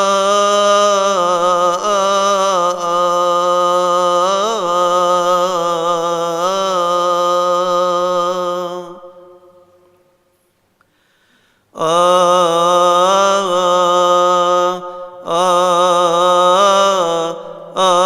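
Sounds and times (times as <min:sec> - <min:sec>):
man chanting a hymn solo: 0:00.0 - 0:09.6, 0:11.8 - 0:18.0.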